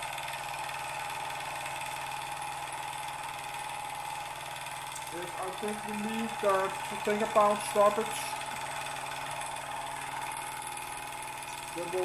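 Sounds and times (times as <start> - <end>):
constant pitched hum: 0.0 - 12.0
toy steam engine chuffing: 0.0 - 12.0.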